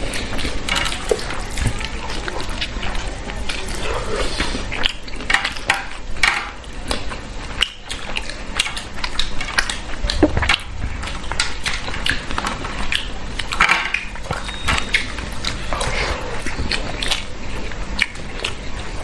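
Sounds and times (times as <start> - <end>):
chewing and smacking: 0.0 - 19.0.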